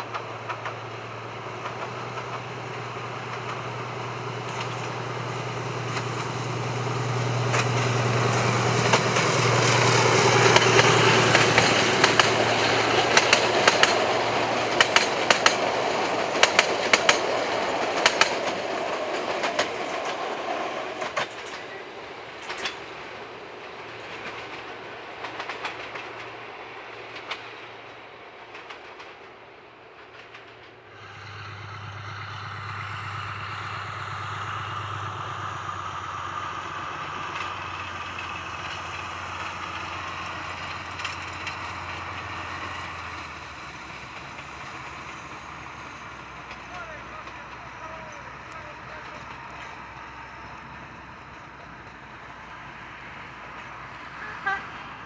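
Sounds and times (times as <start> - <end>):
diesel locomotive engine hum: 0.0 - 55.0
train wheels clicking over rail joints: 0.0 - 55.0.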